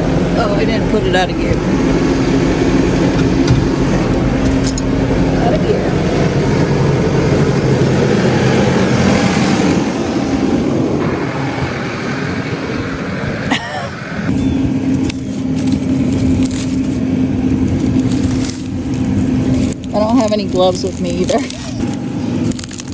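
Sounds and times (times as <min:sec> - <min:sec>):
tractor engine idling: 0:00.0 - 0:22.9.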